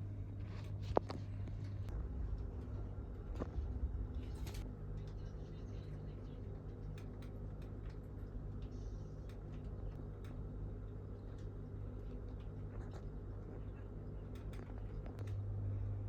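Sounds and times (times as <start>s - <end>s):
low steady hum: 0.0s - 16.0s
faint clicks and ticks: 0.4s - 15.9s.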